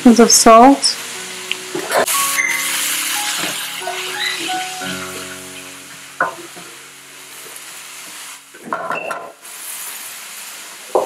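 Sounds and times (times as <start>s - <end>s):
vegetables sauteing: 0.0s - 11.0s.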